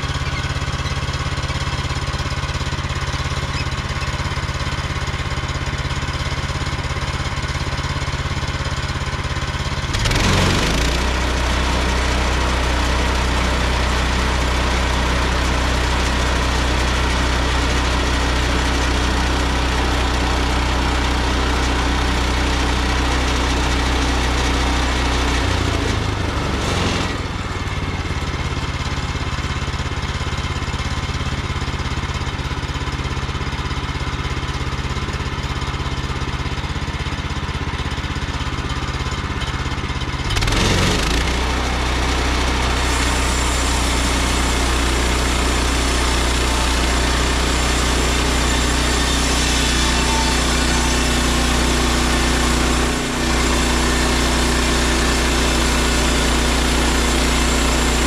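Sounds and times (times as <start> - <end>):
sawmill gas engine running: 0.0 - 58.0.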